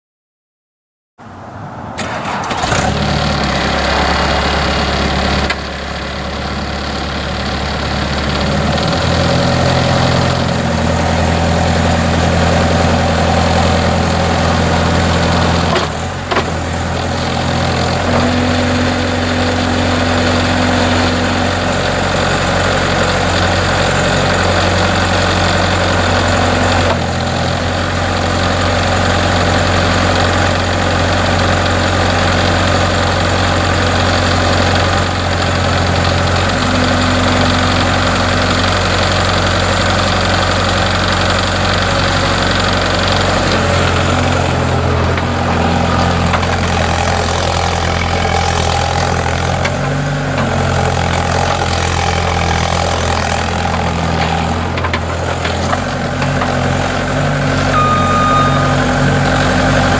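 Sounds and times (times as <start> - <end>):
diesel engine running: 2.0 - 59.9.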